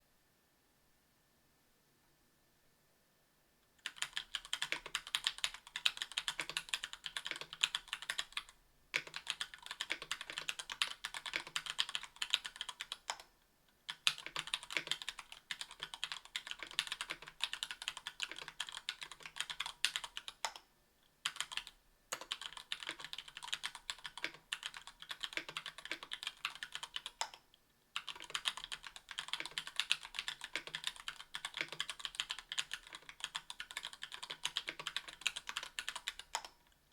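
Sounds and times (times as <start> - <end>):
mechanical keyboard typing: 3.8 - 13.3, 13.9 - 20.6, 21.2 - 27.4, 28.0 - 36.6.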